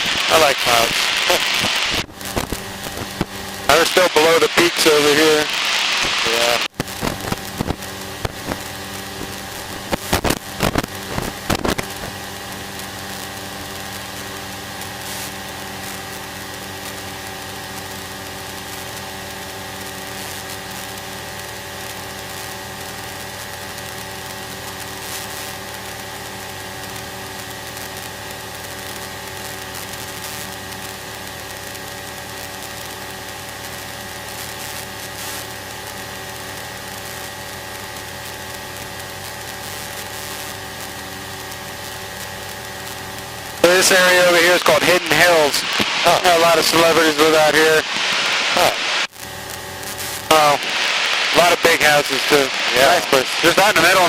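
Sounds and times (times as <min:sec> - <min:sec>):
sharp crackling clicks: 0:00.0 - 0:03.4, 0:04.8 - 0:13.3, 0:21.8 - 0:54.0.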